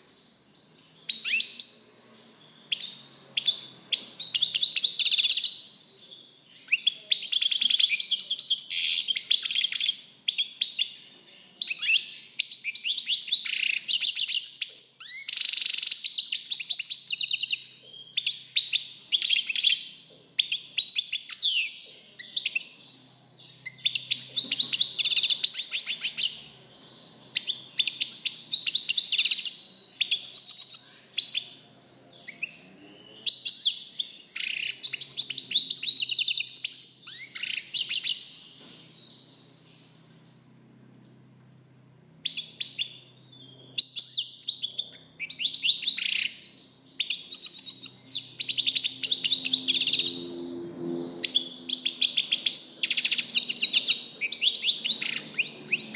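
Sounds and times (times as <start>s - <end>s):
bird twittering song: 0.0s - 41.2s, 42.2s - 55.9s.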